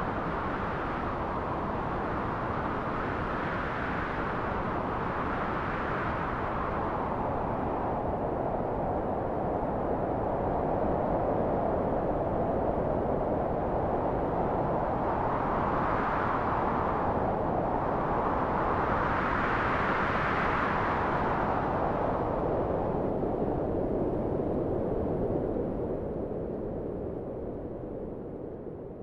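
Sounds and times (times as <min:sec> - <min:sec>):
howling wind: 0:00.0 - 0:29.0.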